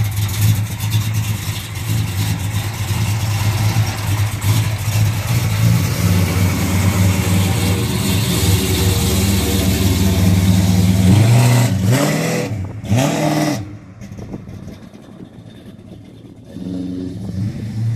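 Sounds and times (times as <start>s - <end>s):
car engine rumbling and revving: 0.0s - 17.9s.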